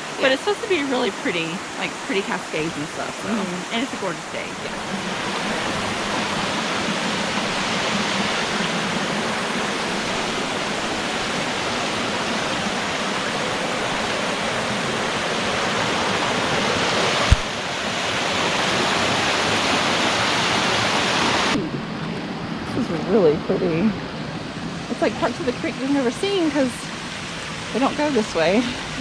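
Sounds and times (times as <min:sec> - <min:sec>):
waterfall rushing: 0:00.0 - 0:21.6, 0:24.4 - 0:29.0.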